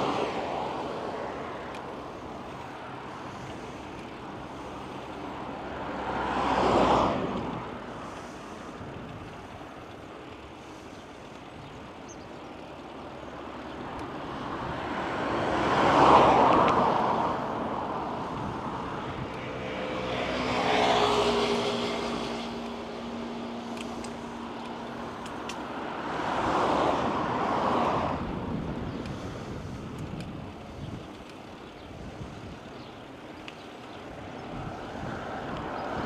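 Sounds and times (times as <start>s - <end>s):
road vehicles passing: 0.0s - 36.0s.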